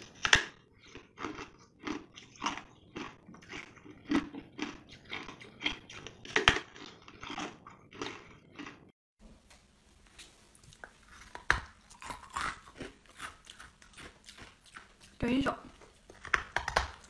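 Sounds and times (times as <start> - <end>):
teeth crunching ice: 0.0 - 8.9, 10.8 - 17.0.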